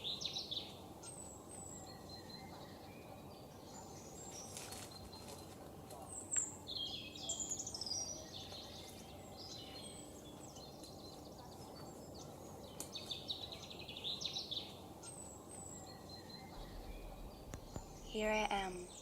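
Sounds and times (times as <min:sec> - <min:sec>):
low background noise: 0:00.0 - 0:19.0
songbirds trilling and chirping: 0:00.0 - 0:19.0.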